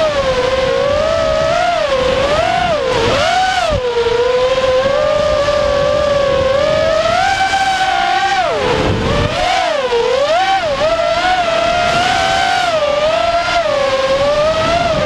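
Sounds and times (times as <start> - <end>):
drone motors and propellers whining: 0.0 - 15.0
wind noise: 0.0 - 15.0.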